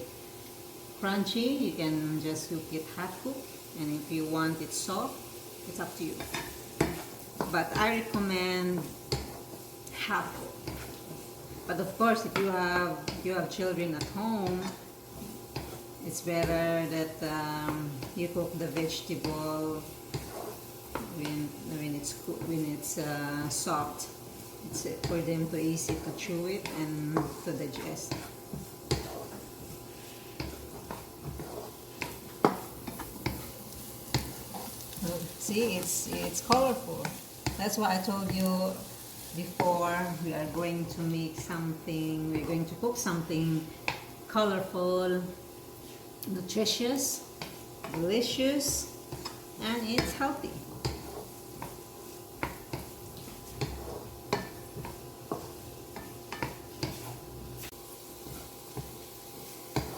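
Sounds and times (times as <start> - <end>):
faint sizzle: 0.0 - 59.9
spatula scraping frying pan: 5.2 - 44.4, 45.2 - 59.9.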